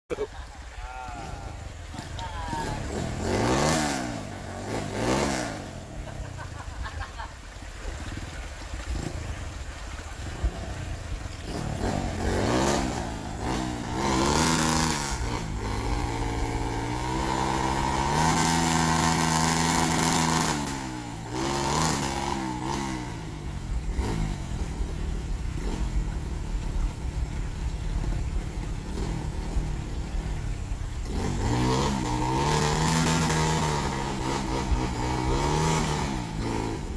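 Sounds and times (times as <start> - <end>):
dirt bike engine revving: 1.2 - 6.6, 8.9 - 9.3, 10.3 - 27.2, 28.0 - 36.9.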